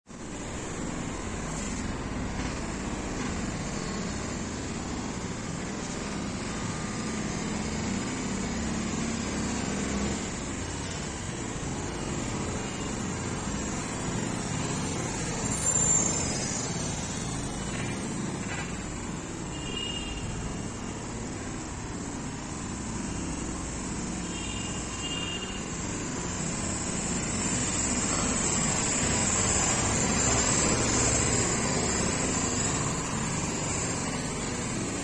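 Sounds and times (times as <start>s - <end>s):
road traffic hum: 0.1s - 35.0s.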